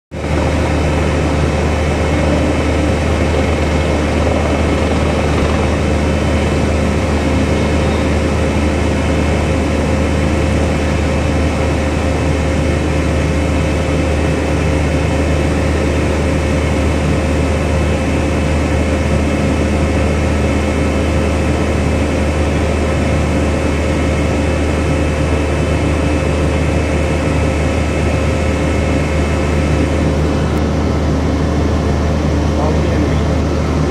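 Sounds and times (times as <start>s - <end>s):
constant machinery hum: 0.1s - 33.9s
ship engine drone: 0.1s - 33.9s.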